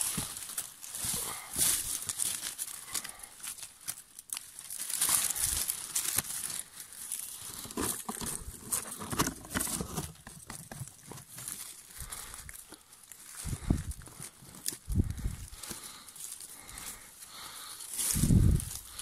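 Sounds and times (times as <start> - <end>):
dry leaves and twigs crackling: 0.0 - 19.0.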